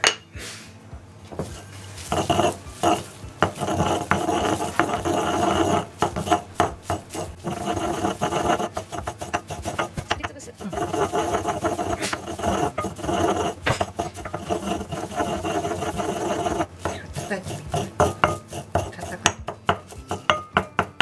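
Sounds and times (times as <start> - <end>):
pestle scraping in ridged mortar: 1.3 - 21.0.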